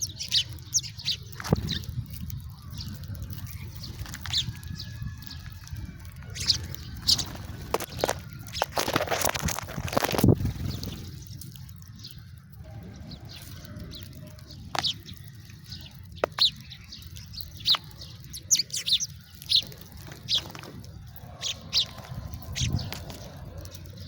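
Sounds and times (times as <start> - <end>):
sparrows chirping: 0.0 - 24.0.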